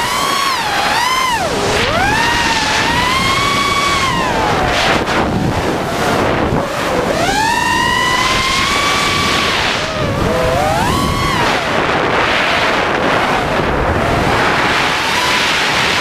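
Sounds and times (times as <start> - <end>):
drone motors whining: 0.0 - 16.0
rush of wind: 0.0 - 16.0.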